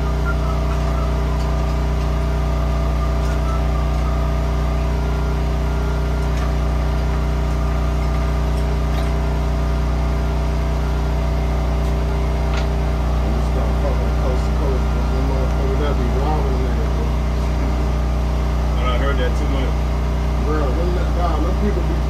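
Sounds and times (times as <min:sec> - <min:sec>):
mechanical hum with low drone: 0:00.0 - 0:22.0.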